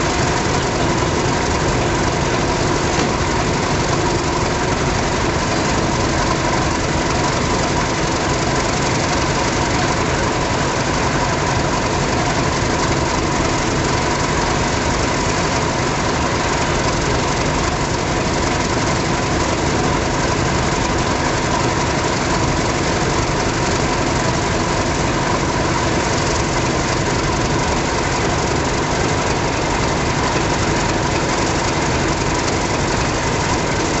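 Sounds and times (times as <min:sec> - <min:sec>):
diesel locomotives idling: 0:00.0 - 0:34.0.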